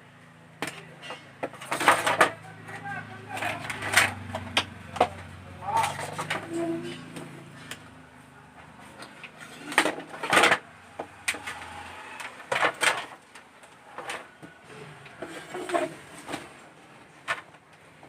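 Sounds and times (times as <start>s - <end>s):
knocks and scraping clatters: 0.6s - 18.0s.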